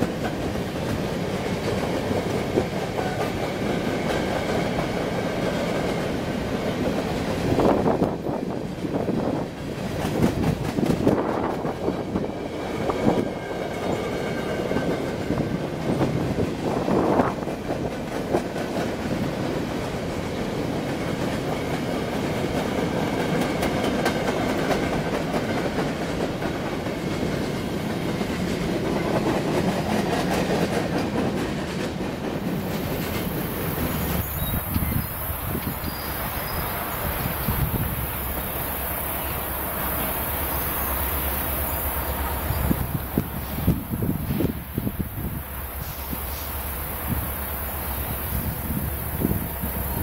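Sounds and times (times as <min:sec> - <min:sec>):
wheels clacking over rail joints: 0:00.0 - 0:40.1
freight train rumble: 0:00.0 - 0:50.0.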